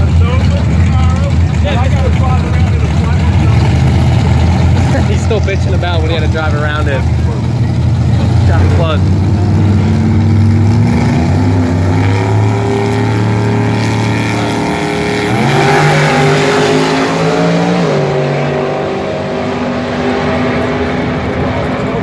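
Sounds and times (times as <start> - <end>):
drag race cars accelerating: 0.0 - 22.0.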